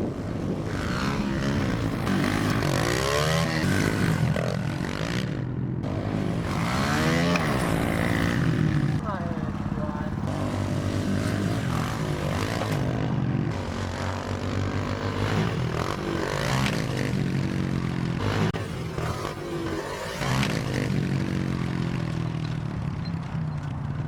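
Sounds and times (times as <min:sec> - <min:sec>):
small motorbike engine revving: 0:00.0 - 0:24.0.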